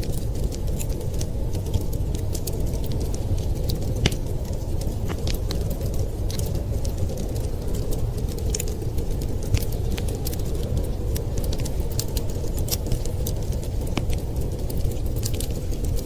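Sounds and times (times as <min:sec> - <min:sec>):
blizzard wind: 0:00.0 - 0:16.0
wood fire crackling: 0:00.0 - 0:16.0.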